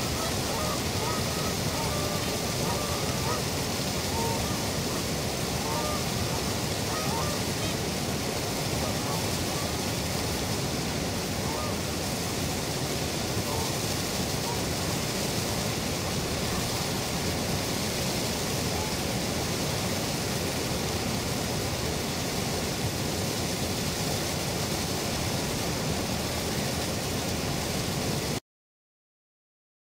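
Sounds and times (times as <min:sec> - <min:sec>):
water rushing over a dam: 0:00.0 - 0:28.4.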